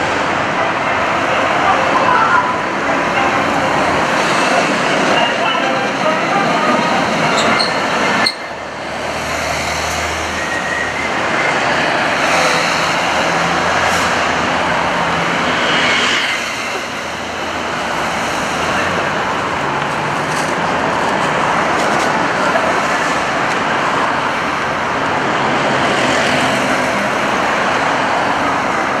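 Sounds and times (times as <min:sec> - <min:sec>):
cars and trucks passing: 0:00.0 - 0:29.0.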